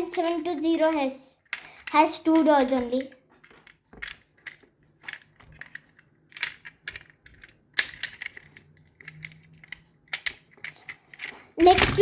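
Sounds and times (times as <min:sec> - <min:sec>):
toy car clicks and clacks: 0:00.0 - 0:12.0.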